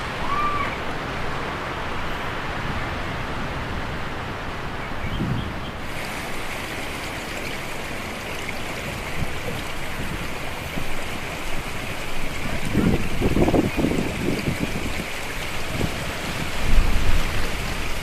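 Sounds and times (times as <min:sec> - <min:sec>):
stream flowing over rocks: 0:00.0 - 0:18.0.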